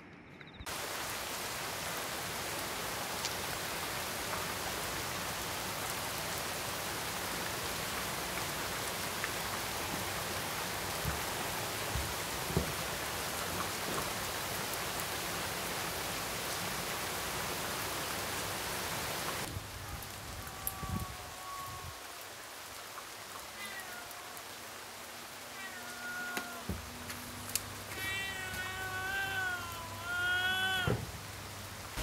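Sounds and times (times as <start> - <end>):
heavy rain hissing: 0.7 - 32.0.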